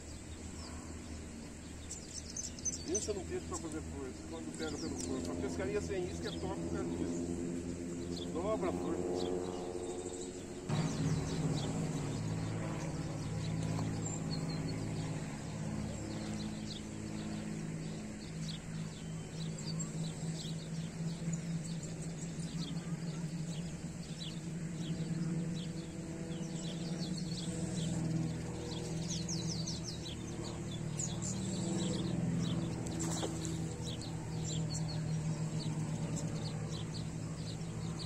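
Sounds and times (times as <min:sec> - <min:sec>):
birds chirping: 0:00.0 - 0:38.0
low motor hum: 0:00.0 - 0:38.0.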